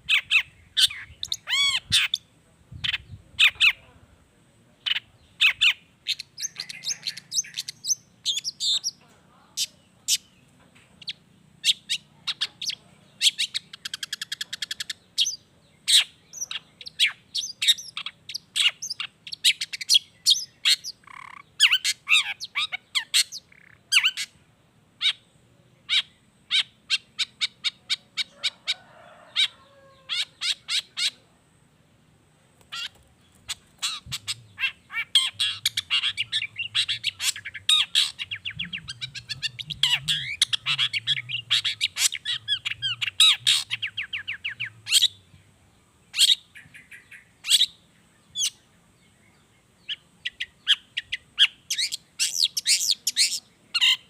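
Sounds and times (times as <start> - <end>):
shrike singing and chattering: 0.0 - 3.9, 4.8 - 31.3, 32.6 - 45.4, 46.0 - 48.7, 49.5 - 54.0.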